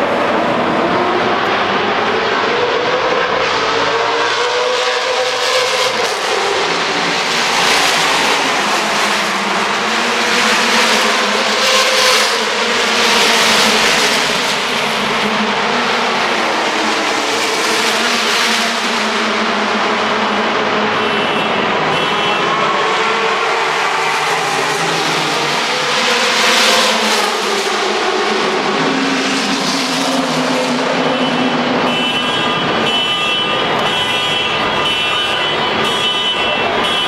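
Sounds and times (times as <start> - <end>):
race cars passing at speed: 0.0 - 37.0.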